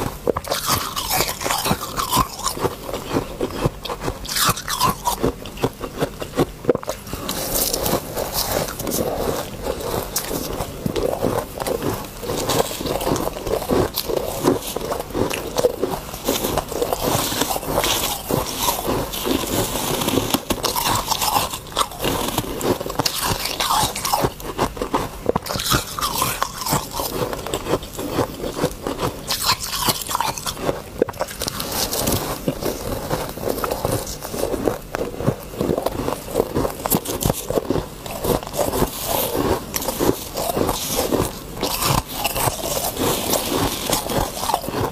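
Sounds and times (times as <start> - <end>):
ice crunching: 0.0 - 44.9.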